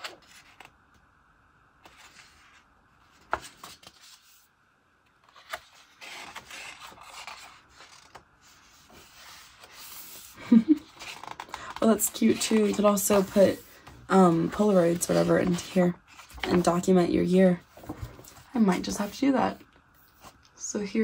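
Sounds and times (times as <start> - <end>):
paper rubbing and rustling: 0.0 - 0.7, 1.8 - 4.5, 5.2 - 20.4
paper pages turning: 0.0 - 0.8, 1.8 - 4.5, 5.1 - 19.2.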